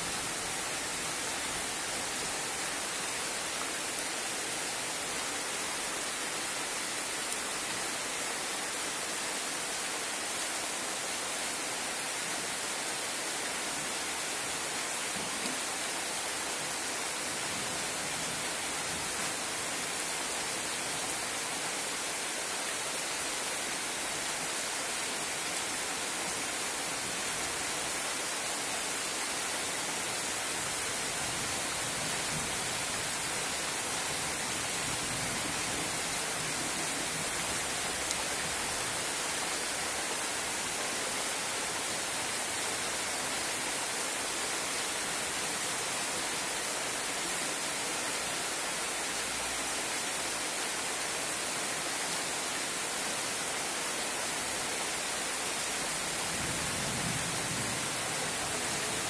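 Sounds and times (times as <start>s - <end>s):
heavy rain on pond and foliage: 0.0s - 59.0s.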